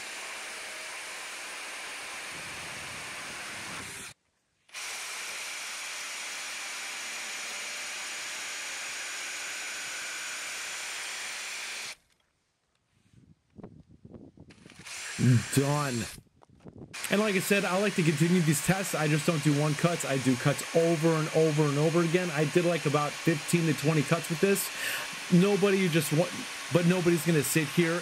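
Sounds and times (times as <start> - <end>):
drill chainsaw cutting wood: 0.0 - 12.0, 14.5 - 16.2, 17.0 - 28.0.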